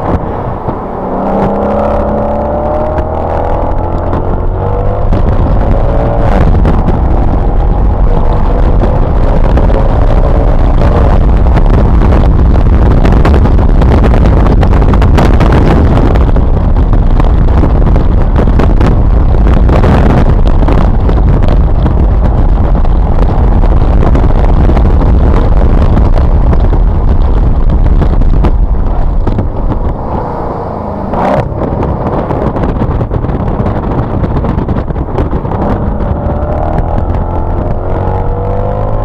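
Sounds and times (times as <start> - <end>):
car engine roaring: 0.0 - 39.0
road noise: 0.0 - 39.0.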